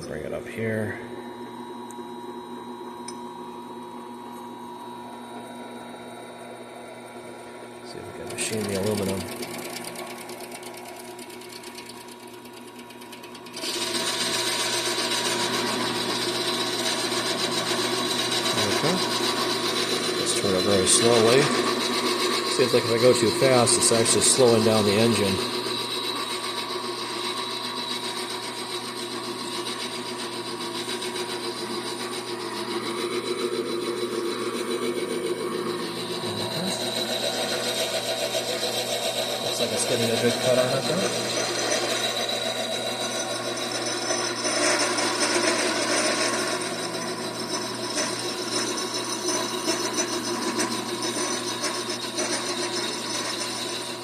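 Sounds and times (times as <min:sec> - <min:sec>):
lathe motor hum: 0:01.0 - 0:54.0
lathe tool cutting metal: 0:08.0 - 0:54.0.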